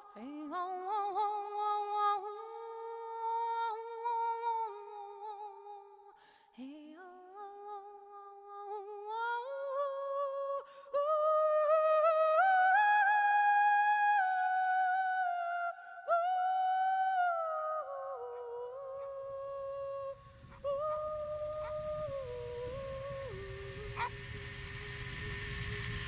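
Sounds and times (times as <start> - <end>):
person singing wordless melody: 0.0 - 24.1.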